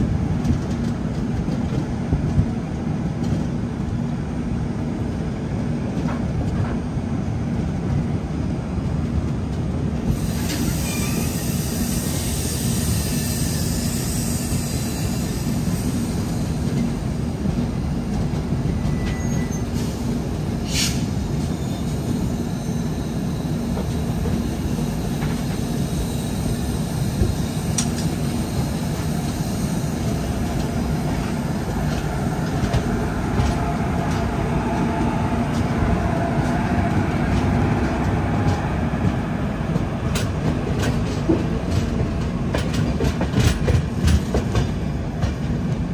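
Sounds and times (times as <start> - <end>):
electric locomotives passing: 0.0 - 45.9
goods train rumbling on rails: 0.0 - 45.9.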